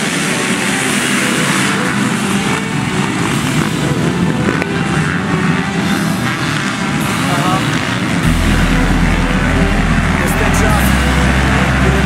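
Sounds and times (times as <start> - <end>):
motocross bikes racing at high revs: 0.0 - 12.0.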